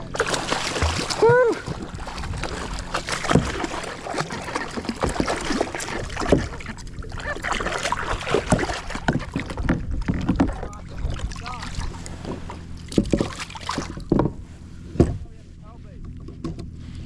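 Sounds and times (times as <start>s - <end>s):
water splashing around kayak: 0.0s - 17.0s.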